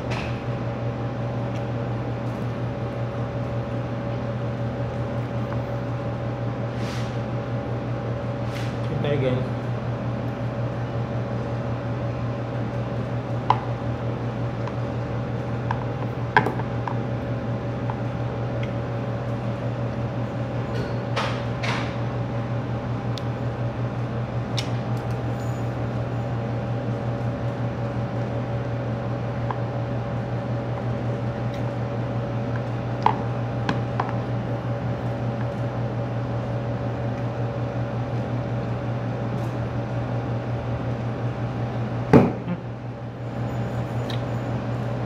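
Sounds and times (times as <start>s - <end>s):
air conditioner humming: 0.0s - 45.0s.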